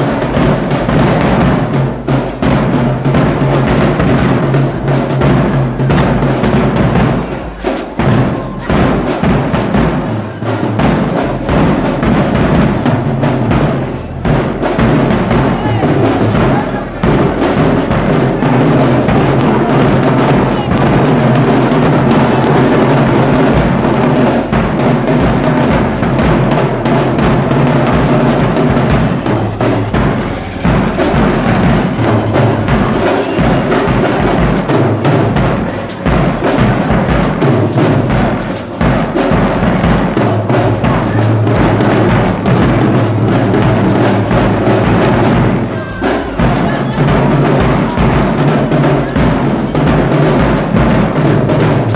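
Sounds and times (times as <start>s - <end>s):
marching drumline cadence: 0.0s - 51.9s.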